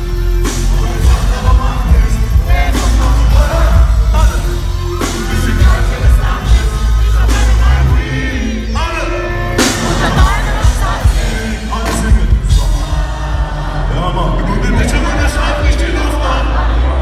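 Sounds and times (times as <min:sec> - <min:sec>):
rapping over a booming bass beat: 0:00.0 - 0:17.0.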